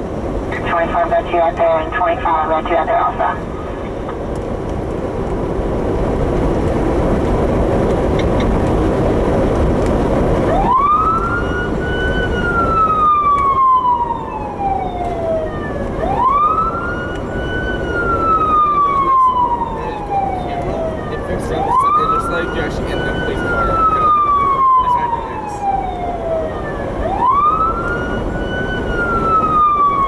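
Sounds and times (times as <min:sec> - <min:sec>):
road noise: 0:00.0 - 0:30.0
vehicle engine: 0:00.0 - 0:30.0
police siren wailing: 0:00.6 - 0:04.2, 0:08.2 - 0:30.0.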